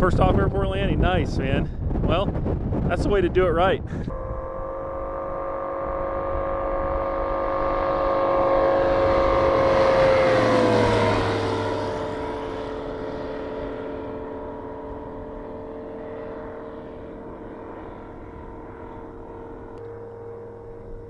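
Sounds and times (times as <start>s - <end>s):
propeller airplane flying past: 2.6s - 21.0s.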